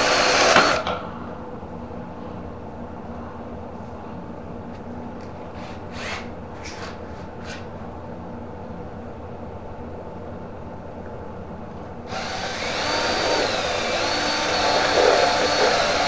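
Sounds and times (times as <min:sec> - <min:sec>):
steady low hum: 0:01.0 - 0:16.0.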